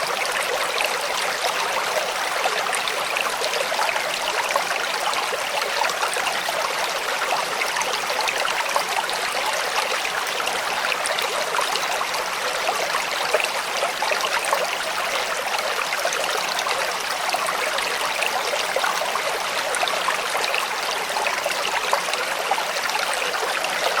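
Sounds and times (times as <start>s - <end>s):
creek trickling over stones: 0.0s - 24.0s.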